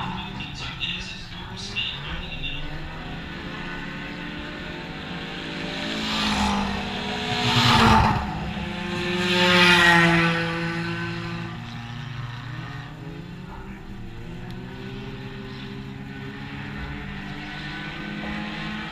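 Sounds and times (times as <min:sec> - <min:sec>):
race cars passing by: 0:00.0 - 0:18.9.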